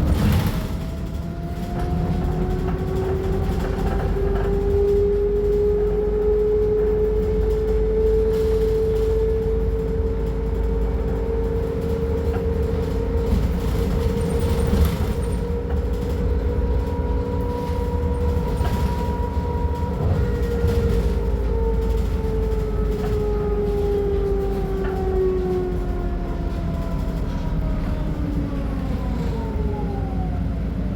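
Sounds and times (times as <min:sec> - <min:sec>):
bus diesel engine rumble: 0:00.0 - 0:30.9
rising engine whine: 0:00.0 - 0:30.9.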